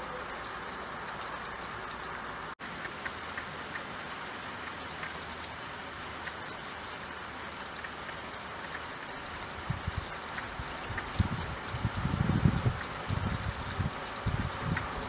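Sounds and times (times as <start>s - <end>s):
drops ticking: 0.0s - 15.0s
steady rain falling: 0.0s - 15.0s.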